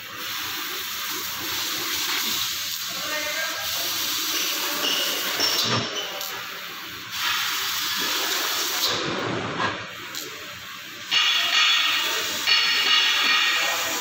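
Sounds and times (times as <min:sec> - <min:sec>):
laser cutter gas hiss: 0:00.0 - 0:09.2, 0:09.8 - 0:14.0.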